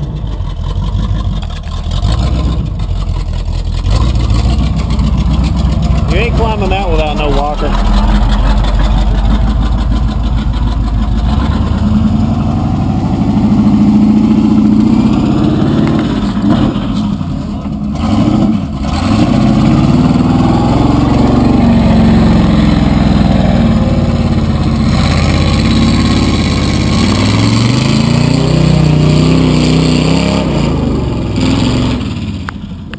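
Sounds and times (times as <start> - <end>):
truck engine revving: 0.0 - 32.9.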